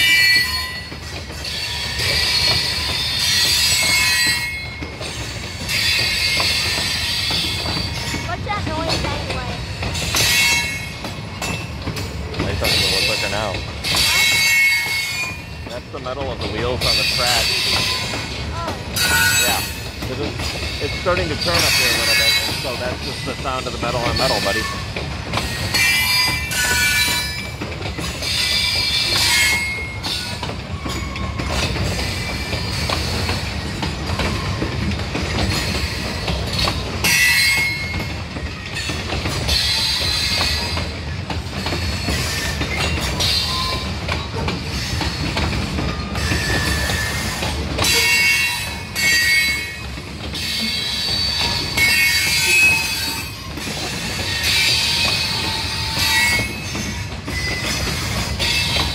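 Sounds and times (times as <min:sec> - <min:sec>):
train low rumble: 0:00.0 - 0:58.9
train wheels squealing on rail: 0:00.0 - 0:58.9.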